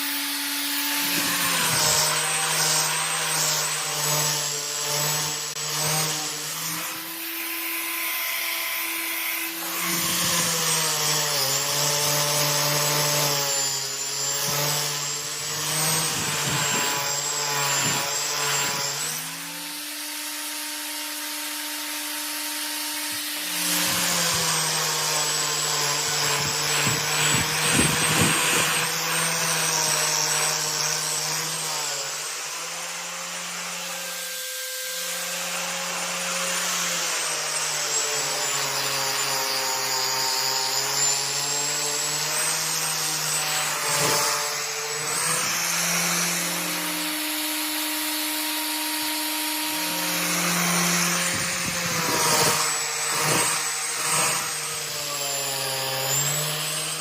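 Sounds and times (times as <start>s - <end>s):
power tool grinding: 0.0s - 57.0s.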